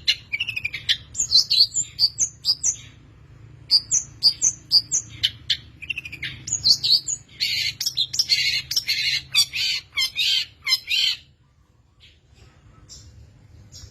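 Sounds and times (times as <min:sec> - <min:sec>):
harsh rasping bird calls: 0:00.0 - 0:13.9.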